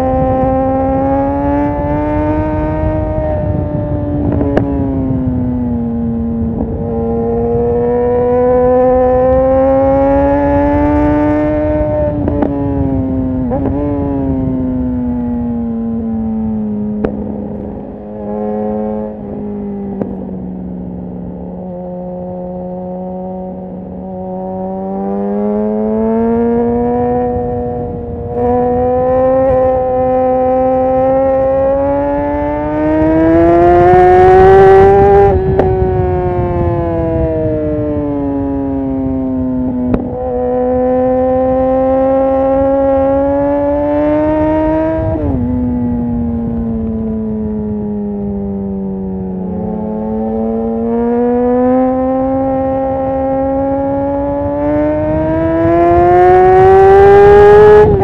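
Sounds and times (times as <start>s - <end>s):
motorcycle engine revving: 0.0s - 58.0s
wind rushing over microphone: 0.0s - 58.0s.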